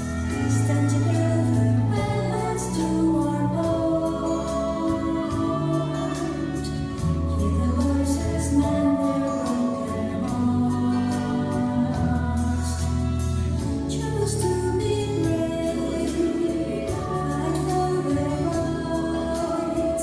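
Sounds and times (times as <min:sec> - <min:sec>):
worship band playing gospel song: 0:00.0 - 0:20.0.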